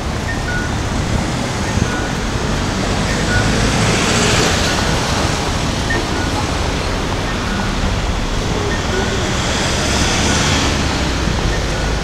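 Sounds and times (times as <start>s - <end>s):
traffic noise: 0.0s - 12.0s
wind buffeting microphone: 0.0s - 12.0s.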